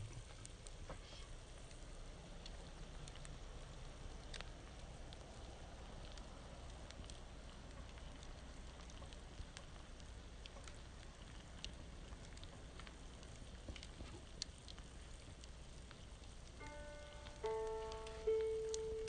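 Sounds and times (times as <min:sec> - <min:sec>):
campfire crackling: 0:00.0 - 0:19.0
low steady hiss: 0:00.0 - 0:19.0.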